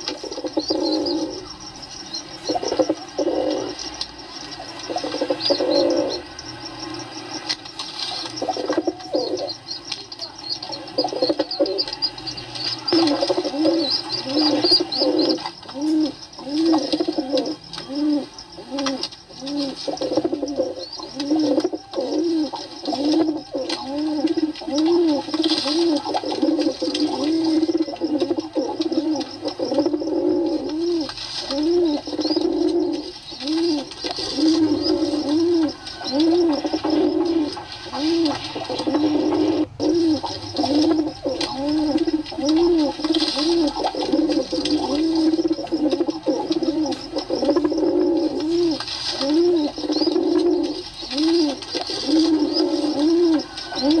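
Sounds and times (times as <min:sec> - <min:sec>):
high chirping: 0:00.0 - 0:54.0
pigeons cooing: 0:00.0 - 0:54.0.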